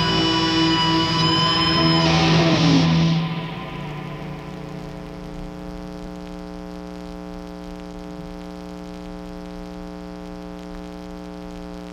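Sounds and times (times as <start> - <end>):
guitar amplifier hum and hiss: 0.0 - 11.9.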